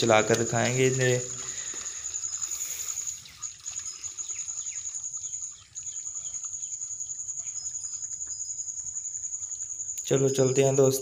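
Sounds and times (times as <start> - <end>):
faint bird chirps: 0.0 - 11.0
pulsing insect trill: 0.0 - 11.0.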